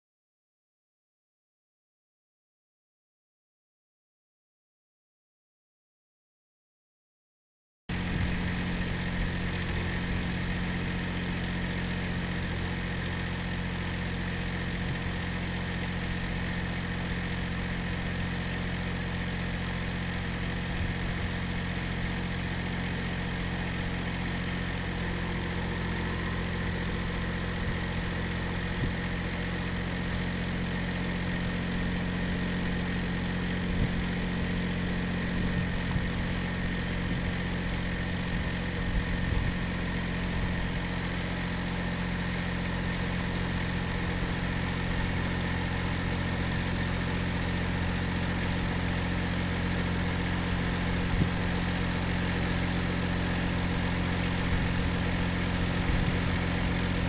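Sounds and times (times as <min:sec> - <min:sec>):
engine idling: 0:07.9 - 0:57.0.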